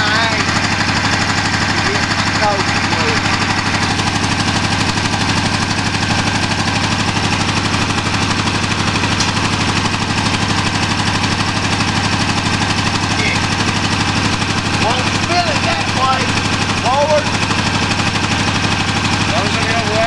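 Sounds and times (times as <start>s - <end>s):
garden tractor engine running: 0.0s - 20.0s.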